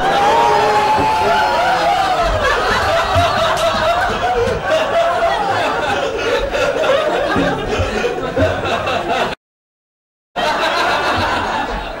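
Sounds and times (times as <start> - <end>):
people laughing: 0.0 - 9.4, 10.4 - 12.0.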